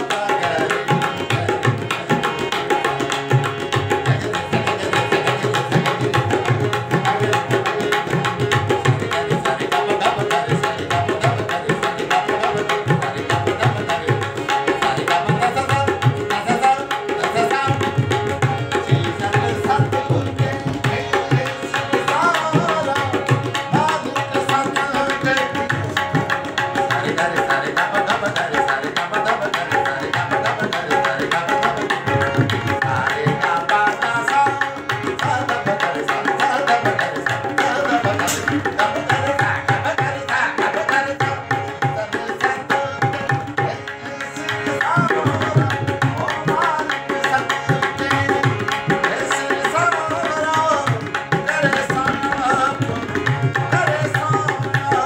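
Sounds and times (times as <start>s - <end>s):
tabla drumming: 0.0s - 55.0s.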